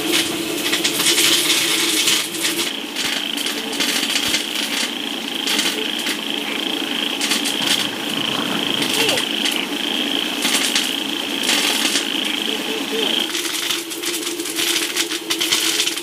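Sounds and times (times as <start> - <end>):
fire crackling: 0.0 - 16.0
insect trill: 0.0 - 16.0
kettle steaming: 0.0 - 16.0.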